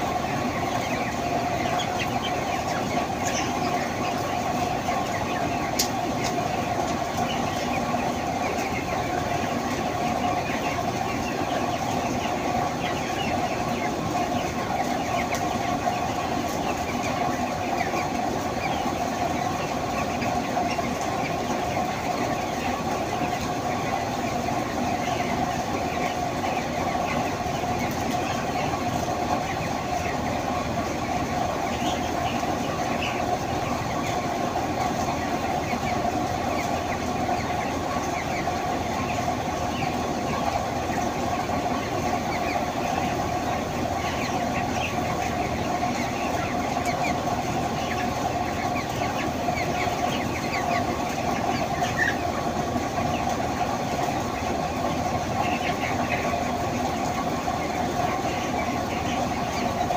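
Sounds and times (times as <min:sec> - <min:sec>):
flock of chickens cheeping: 0:00.0 - 0:59.9.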